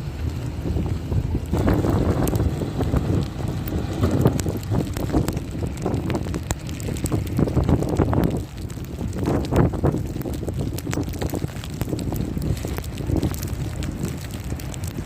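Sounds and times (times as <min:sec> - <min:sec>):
crackling ticks: 0:00.0 - 0:15.0
wind buffeting microphone: 0:00.0 - 0:15.0.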